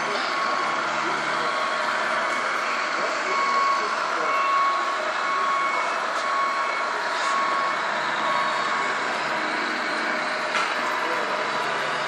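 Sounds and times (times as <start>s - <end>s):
hall background noise: 0.0s - 12.0s
toy truck diesel engine sound: 0.0s - 12.0s.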